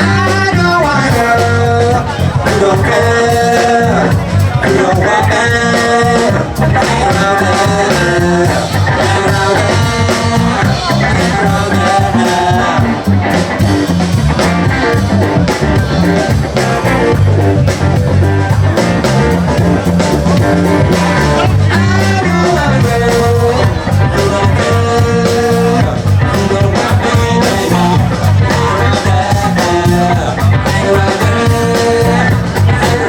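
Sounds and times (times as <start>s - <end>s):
live rock and roll band: 0.0s - 33.0s
person singing: 0.0s - 33.0s.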